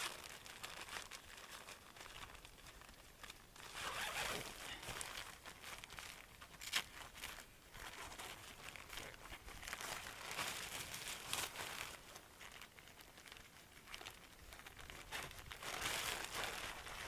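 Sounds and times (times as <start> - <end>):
tent fabric rustling: 0.0 - 17.0.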